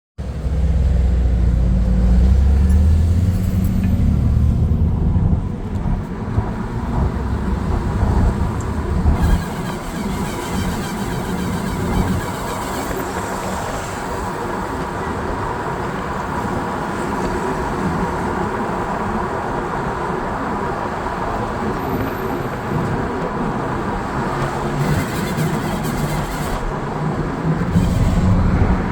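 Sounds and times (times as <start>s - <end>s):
car road noise: 0.2s - 28.9s.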